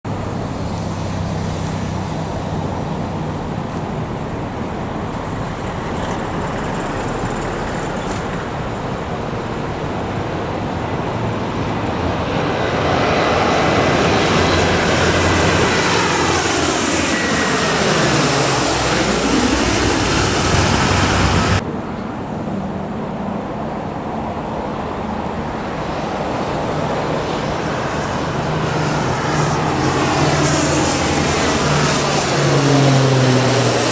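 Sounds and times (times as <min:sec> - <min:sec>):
turboprop aircraft passing overhead: 0:00.1 - 0:33.9
twin-engine turboprop approaching: 0:00.1 - 0:33.9.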